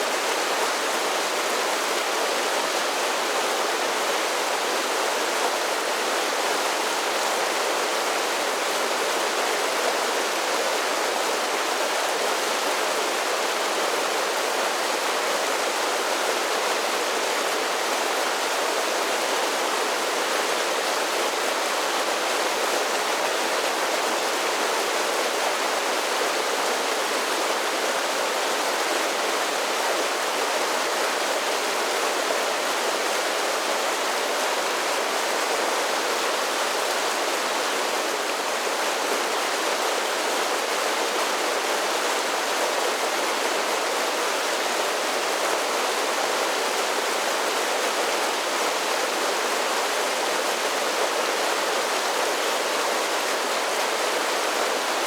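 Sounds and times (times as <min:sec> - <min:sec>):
small waterfalls rushing: 0:00.0 - 0:55.0.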